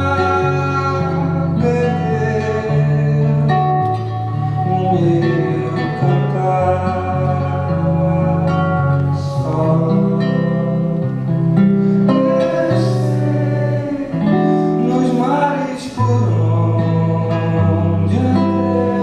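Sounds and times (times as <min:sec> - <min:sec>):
man singing: 0:00.0 - 0:11.2, 0:12.0 - 0:19.0
strummed acoustic guitar: 0:00.0 - 0:19.0.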